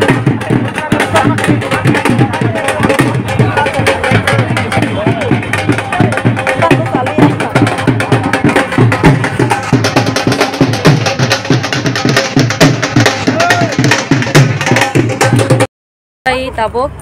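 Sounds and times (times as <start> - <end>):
crowd voices: 0.0 - 14.8
percussion music: 0.0 - 15.7.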